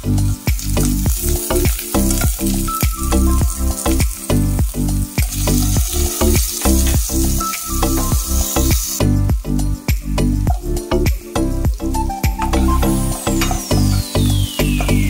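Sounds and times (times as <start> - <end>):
onions sizzling in oil: 0.0 - 9.6, 10.5 - 15.0
background music with beat: 0.0 - 15.0.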